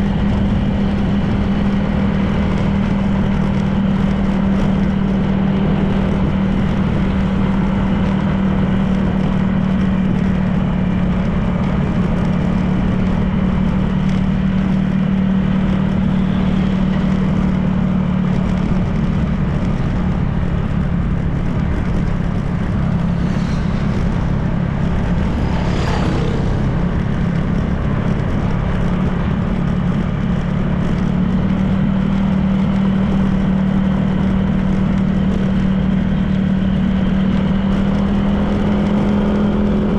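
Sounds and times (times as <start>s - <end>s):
scooter engine running: 0.0s - 39.9s
tyre and wind noise: 0.0s - 39.9s.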